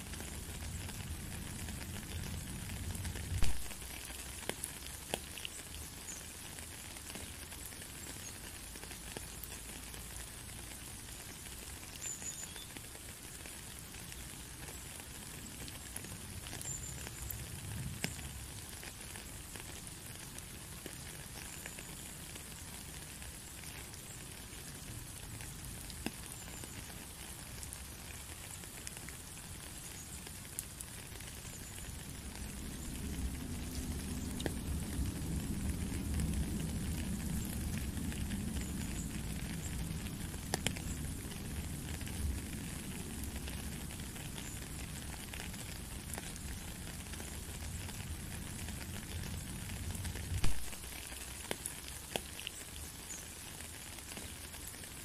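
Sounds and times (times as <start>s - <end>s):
rain pattering on puddle and gravel: 0.0s - 55.0s.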